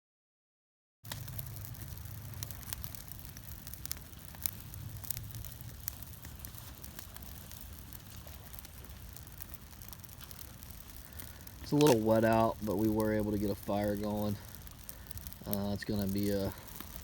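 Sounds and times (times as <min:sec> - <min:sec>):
campfire crackling and popping: 0:01.0 - 0:17.0.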